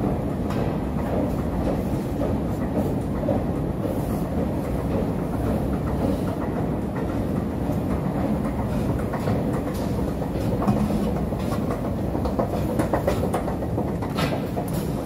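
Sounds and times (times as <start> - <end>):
escalator steps clicking: 0.0 - 15.0.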